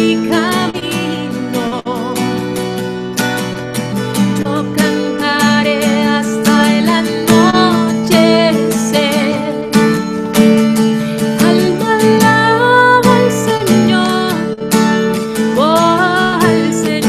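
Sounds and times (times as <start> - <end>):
woman singing: 0.0 - 3.0, 4.0 - 17.0
acoustic guitar strumming: 0.0 - 17.0.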